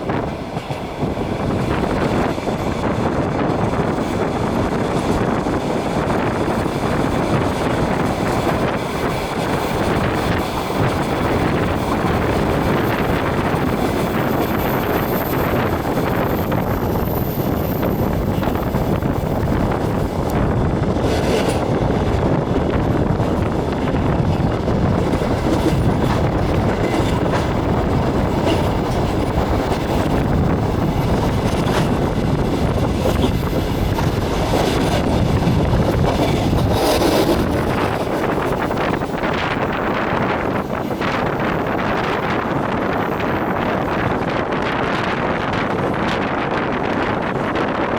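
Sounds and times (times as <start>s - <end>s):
train carriage rumbling: 0.0s - 47.9s.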